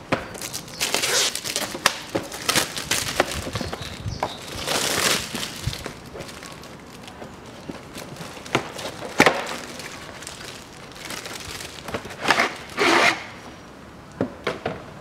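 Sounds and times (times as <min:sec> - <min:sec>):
plastic bag crinkling: 0:00.3 - 0:13.3.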